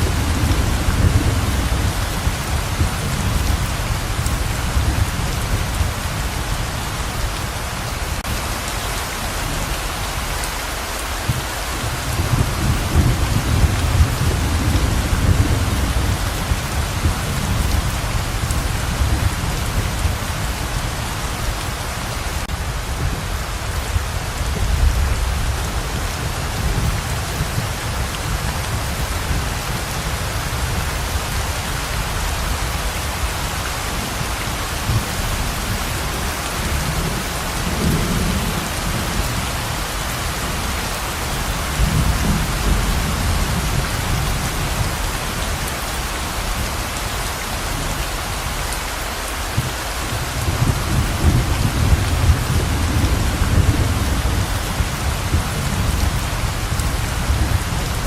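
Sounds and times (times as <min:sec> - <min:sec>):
thunder rumbling: 0:00.0 - 0:08.6, 0:11.0 - 0:47.1, 0:49.5 - 0:58.0
heavy rain pouring: 0:00.0 - 0:58.0.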